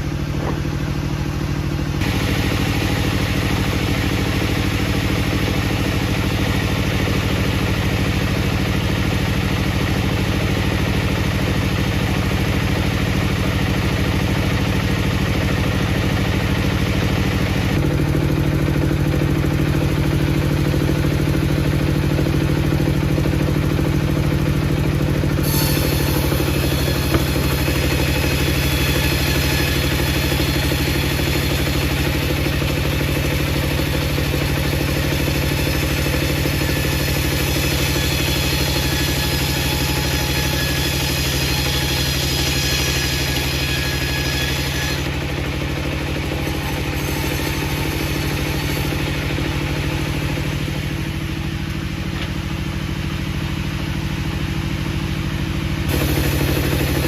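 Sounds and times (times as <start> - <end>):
wood-processing machinery engine hum: 0.0 - 57.0.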